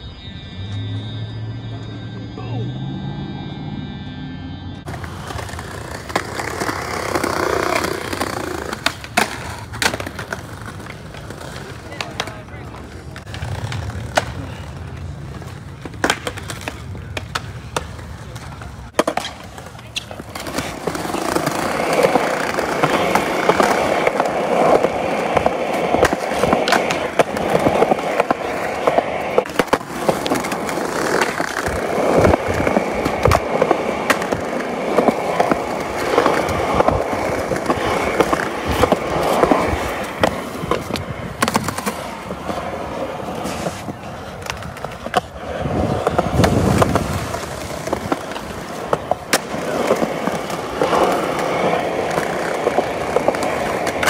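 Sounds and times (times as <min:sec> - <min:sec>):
skateboard wheels rolling on concrete: 0:00.0 - 0:54.0
skateboard clacking on ground: 0:04.8 - 0:54.0.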